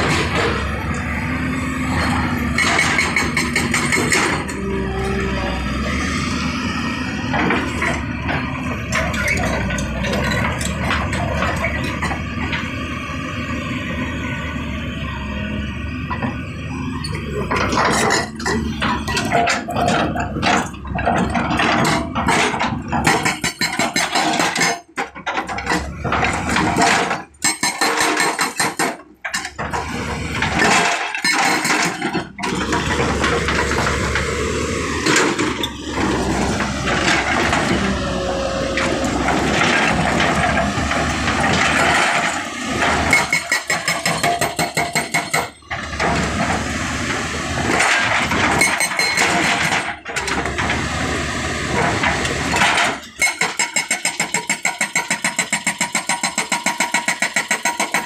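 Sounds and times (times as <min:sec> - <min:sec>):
excavator engine running: 0:00.0 - 0:28.5, 0:29.2 - 0:57.3.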